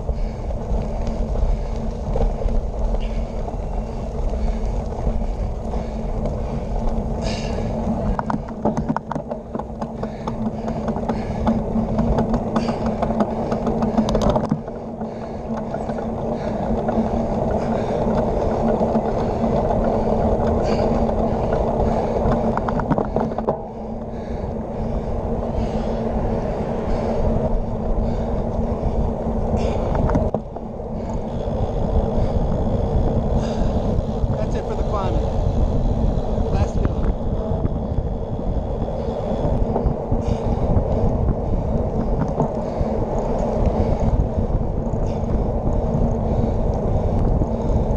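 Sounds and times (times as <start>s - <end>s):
low hum: 0.0s - 47.9s
tyre rumble: 0.0s - 47.9s
wind rushing over microphone: 0.0s - 47.9s.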